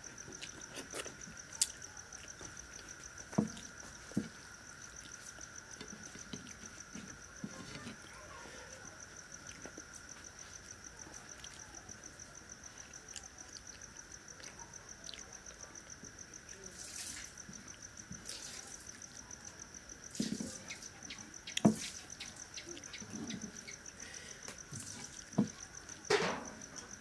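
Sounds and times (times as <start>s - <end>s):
crickets trilling: 0.0s - 27.0s.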